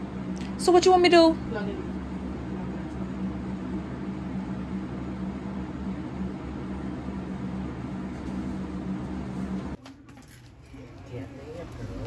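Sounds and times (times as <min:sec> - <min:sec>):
electric appliance humming and hissing: 0:00.0 - 0:09.8.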